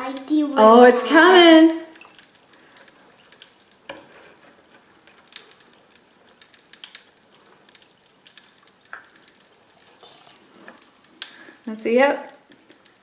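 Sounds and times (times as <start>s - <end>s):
crackling and snapping in bath water: 0.0s - 13.0s
soft fizzy hiss: 0.0s - 13.0s.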